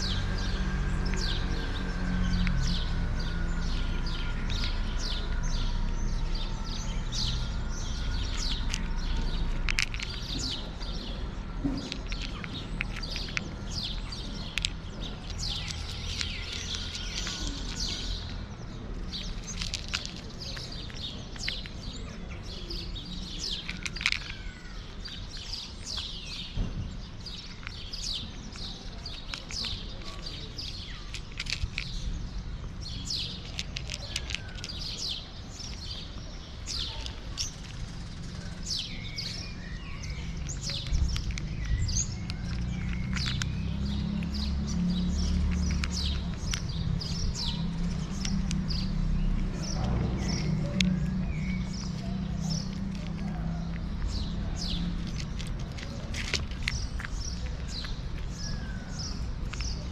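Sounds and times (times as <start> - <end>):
small birds chirping: 0.0 - 59.9
steady low rumble: 0.0 - 59.9.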